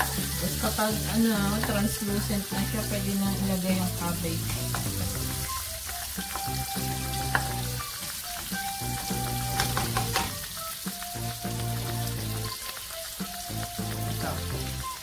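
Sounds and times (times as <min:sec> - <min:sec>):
background music: 0:00.0 - 0:15.0
onions sizzling in oil: 0:00.0 - 0:15.0.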